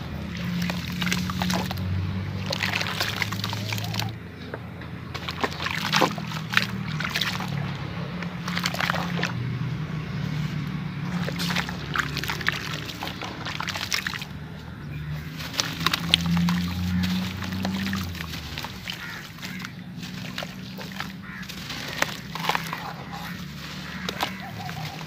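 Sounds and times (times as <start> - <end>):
soaked blocks crackling and crunching: 0.0 - 4.2, 5.1 - 9.5, 10.3 - 14.4, 15.1 - 25.0
water sloshing and splashing: 0.0 - 25.0.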